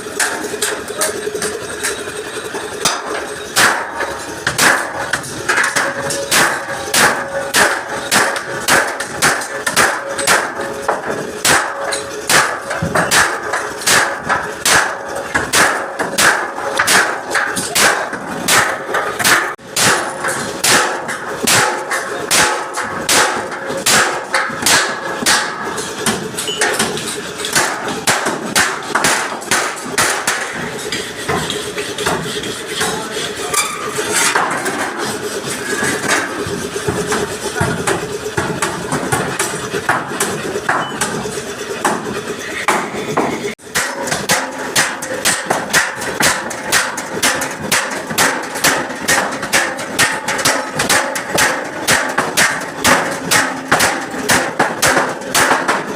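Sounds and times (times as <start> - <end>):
hammer beating metal bumper: 0.0 - 55.9.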